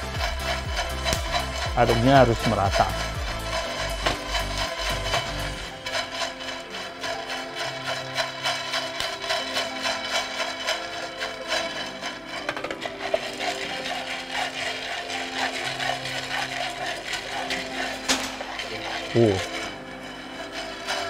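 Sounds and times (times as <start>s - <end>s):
background music: 0.0s - 21.0s
coffee beans rattling in a pan: 0.0s - 21.0s.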